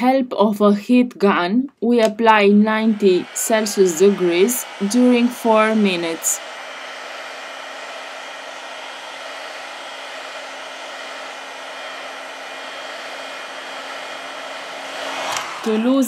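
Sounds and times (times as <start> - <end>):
heat gun blowing hot air: 2.1 - 16.0.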